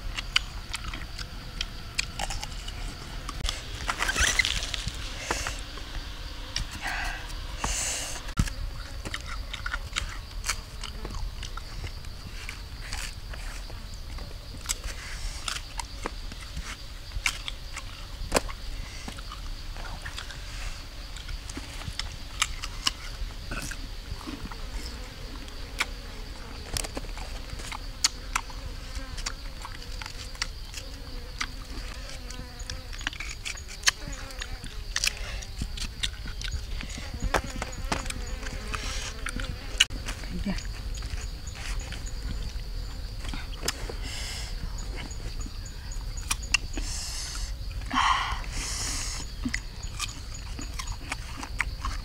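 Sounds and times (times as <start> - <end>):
biting and chewing fruit: 0.0 - 5.6, 8.4 - 20.4, 21.0 - 44.0, 44.8 - 46.8, 49.2 - 52.0
high-pitched insect hum: 0.0 - 52.0.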